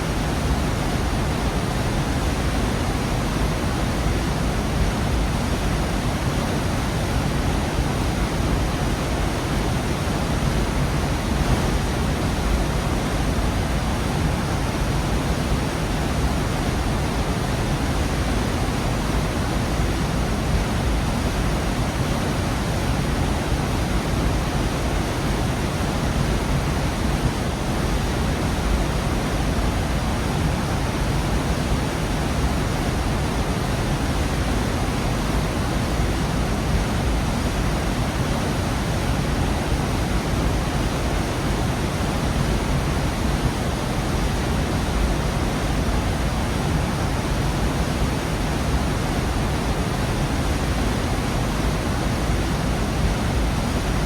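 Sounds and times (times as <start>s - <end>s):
waterfall rushing: 0.1s - 54.0s.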